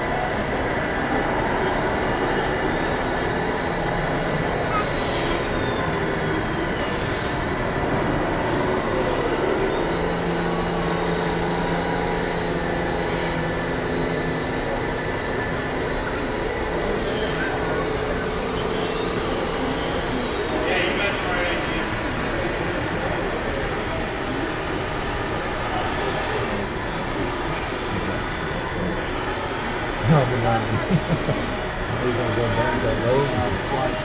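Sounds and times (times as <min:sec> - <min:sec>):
busy exhibition hall din: 0:00.0 - 0:34.0
low steady multi-tone drone: 0:00.0 - 0:34.0
model trucks running: 0:00.0 - 0:34.0.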